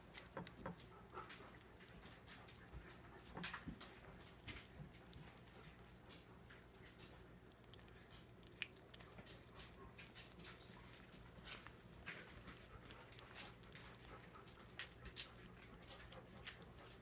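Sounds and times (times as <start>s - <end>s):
cat chewing wetly: 0.0s - 17.0s.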